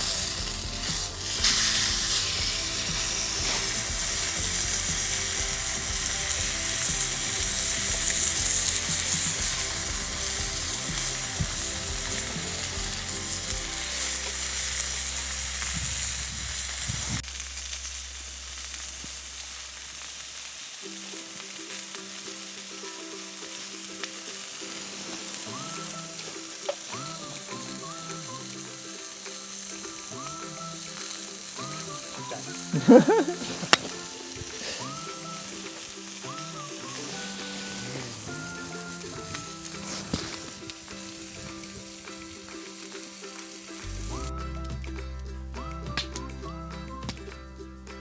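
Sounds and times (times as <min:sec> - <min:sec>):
soft background music: 0:00.0 - 0:17.3, 0:20.7 - 0:48.0
steady hissing noise: 0:00.0 - 0:48.0.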